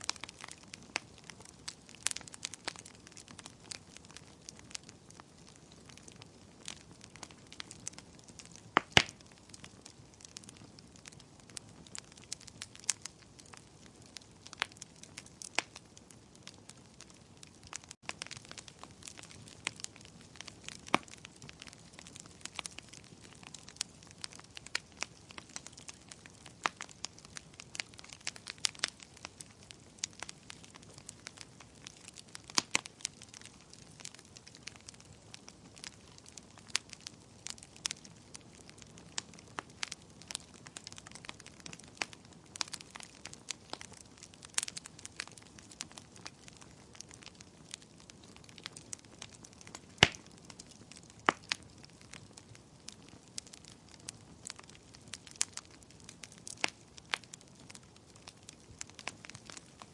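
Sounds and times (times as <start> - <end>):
bonfire crackling: 0.0 - 59.9.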